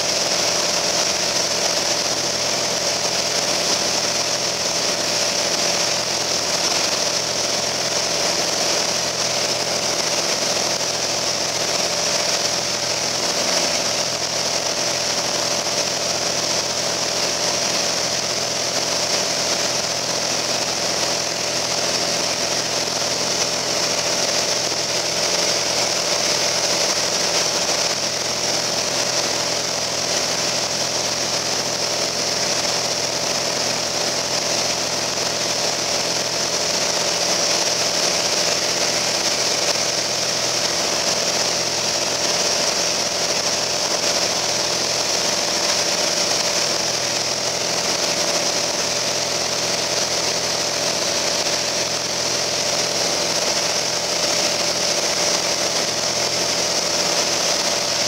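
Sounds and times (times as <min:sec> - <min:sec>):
propeller plane engine in flight: 0:00.0 - 0:58.0.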